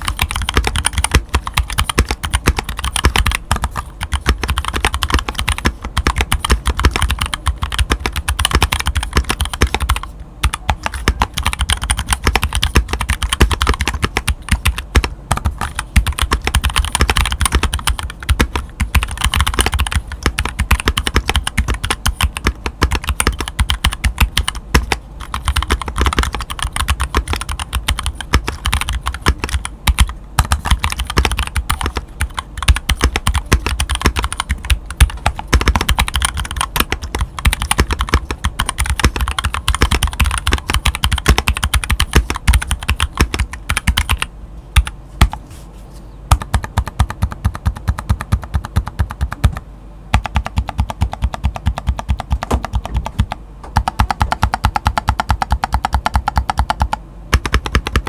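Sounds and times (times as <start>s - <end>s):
mechanical keyboard typing: 0.0s - 45.4s, 46.3s - 58.0s.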